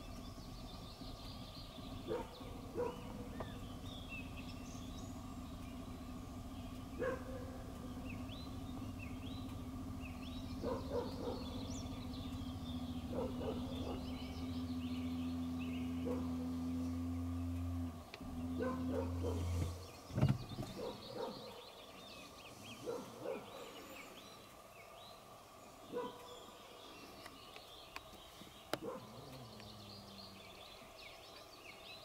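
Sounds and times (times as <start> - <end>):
steady low hum: 0.0 - 31.8
songbirds singing: 0.0 - 32.0.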